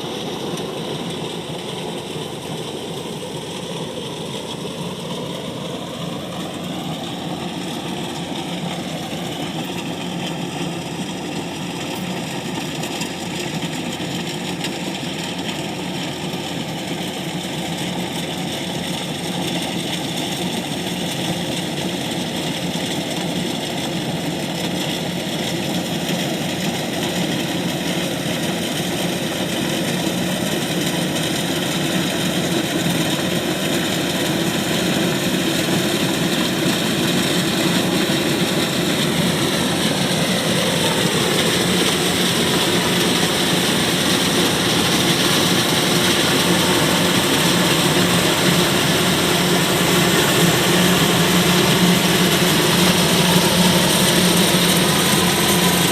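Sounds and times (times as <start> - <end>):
combine harvester engine running: 0.0 - 55.9
machinery whine: 0.0 - 55.9.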